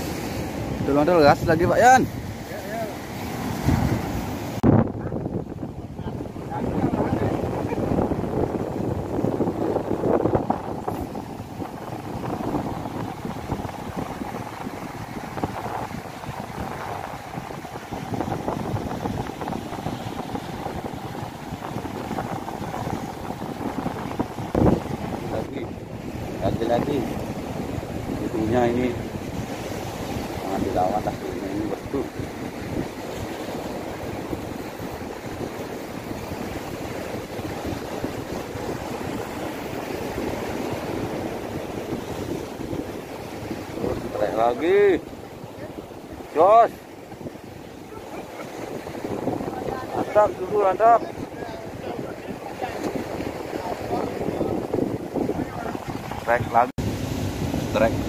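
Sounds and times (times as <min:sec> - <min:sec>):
surf breaking on rocks: 0:00.0 - 0:58.0
wind buffeting microphone: 0:00.0 - 0:58.0.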